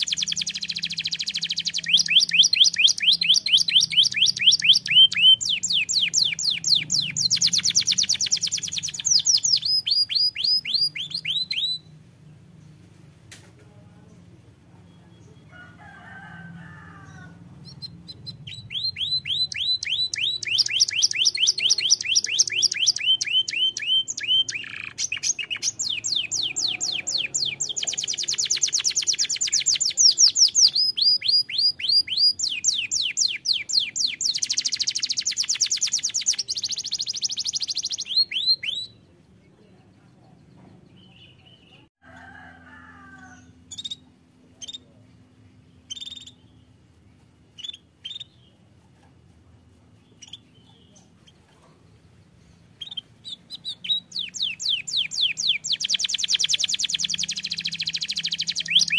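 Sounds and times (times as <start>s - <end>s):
canary singing rolling trills: 0.0s - 13.1s, 13.8s - 58.9s.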